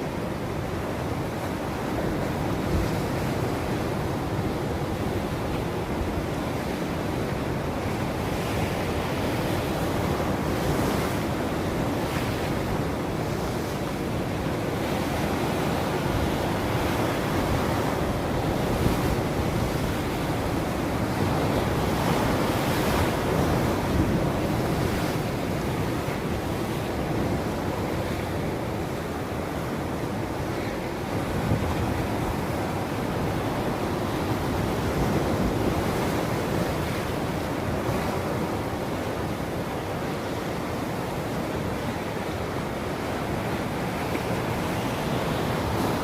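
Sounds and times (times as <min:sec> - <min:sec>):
ocean waves breaking on shore: 0:00.0 - 0:46.0
wind: 0:00.0 - 0:46.0.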